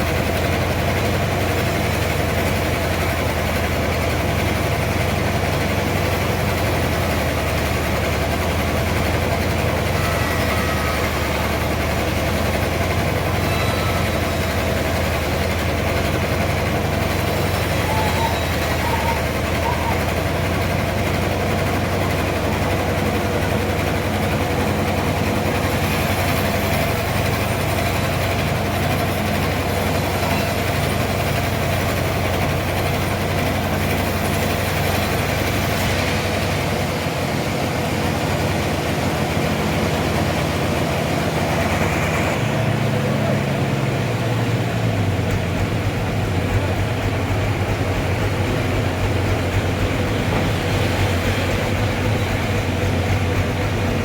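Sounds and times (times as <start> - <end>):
sawmill machinery hum: 0.0 - 54.0.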